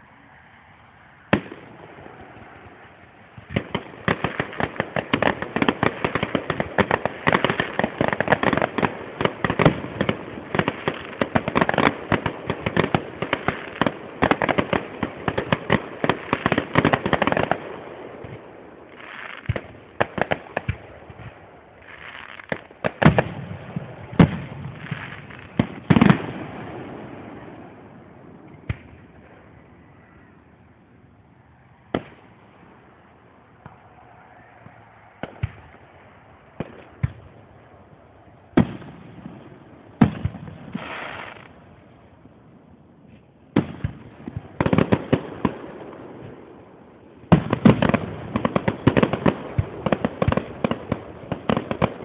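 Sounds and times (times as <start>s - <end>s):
fireworks crackling: 1.3s - 29.6s, 31.9s - 42.4s, 47.2s - 52.0s
fireworks bangs: 1.3s - 30.1s, 31.8s - 41.9s, 47.2s - 52.0s.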